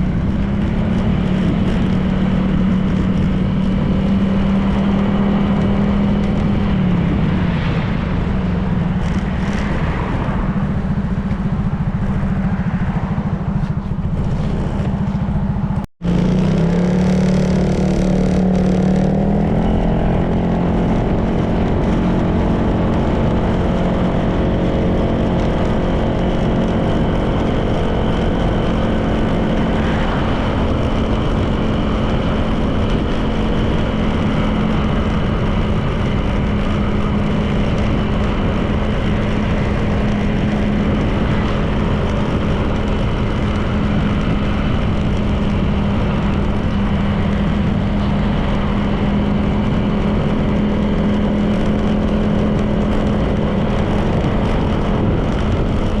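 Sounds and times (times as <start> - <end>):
scooter engine cruising: 0.0 - 56.0
wind and road noise: 0.0 - 56.0.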